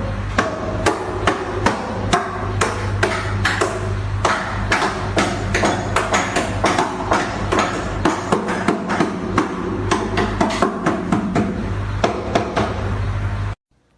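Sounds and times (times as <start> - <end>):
steady low hum: 0.0 - 13.9
rhythmic sharp knocks: 0.4 - 12.8.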